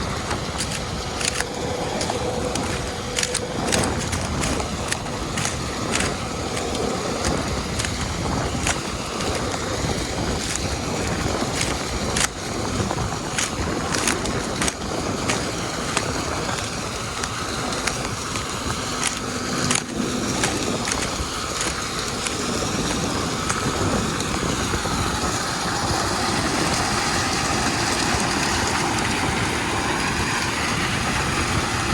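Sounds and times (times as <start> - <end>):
sharp clicks and rattles: 0.0 - 25.9
hissing wind-like noise: 0.0 - 31.9
machinery and engine rumble: 0.0 - 31.9.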